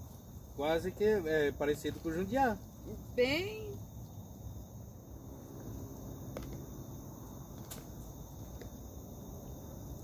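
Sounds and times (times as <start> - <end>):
crickets and insects trilling: 0.0 - 10.0.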